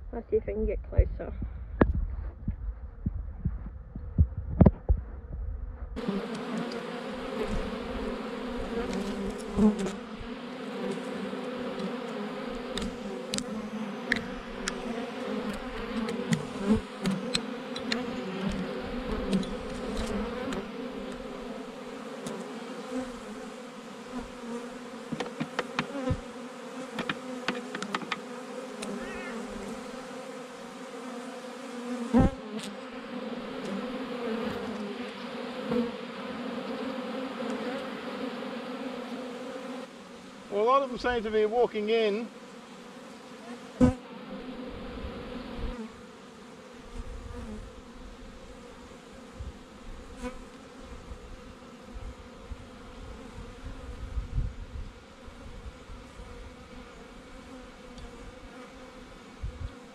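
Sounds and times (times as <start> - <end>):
honey bees buzzing: 6.0 - 59.9.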